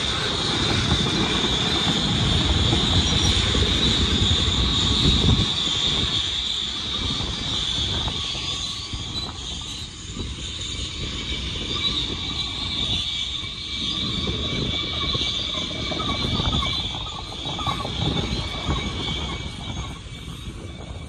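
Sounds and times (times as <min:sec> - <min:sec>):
train cars clanking: 0:00.0 - 0:21.0
train cars rumbling: 0:00.0 - 0:21.0
wheels squealing: 0:00.0 - 0:21.0.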